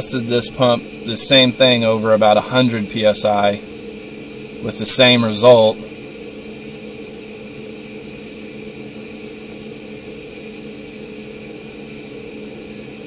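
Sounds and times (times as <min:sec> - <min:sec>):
electric fuel pump humming: 0:00.0 - 0:13.0.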